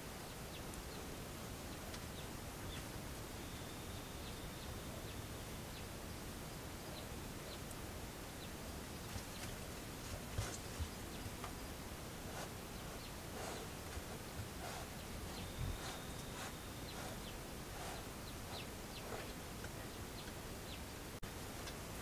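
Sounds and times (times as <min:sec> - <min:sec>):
microphone hiss: 0:00.0 - 0:22.0.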